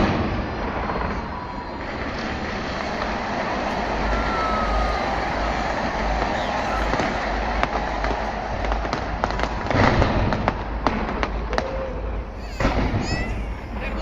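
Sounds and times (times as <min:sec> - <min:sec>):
background rumble: 0:00.0 - 0:14.0
fireworks cracking and popping: 0:00.0 - 0:14.0.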